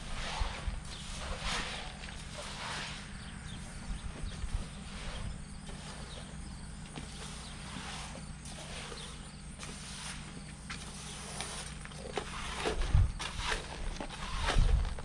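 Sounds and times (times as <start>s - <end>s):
rake scraping dirt on tarp: 0.0s - 15.0s
steady low hum: 0.0s - 15.0s.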